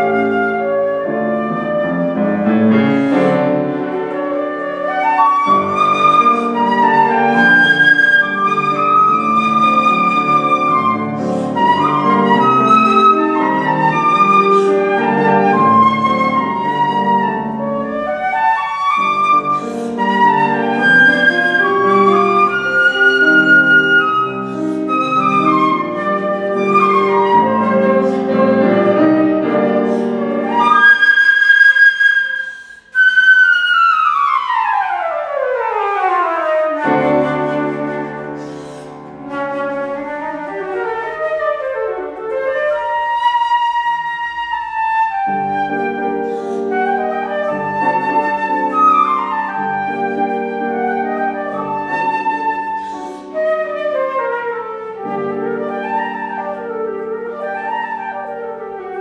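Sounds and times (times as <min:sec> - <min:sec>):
flute melody: 0:00.0 - 0:59.0
piano accompaniment: 0:00.0 - 0:59.0.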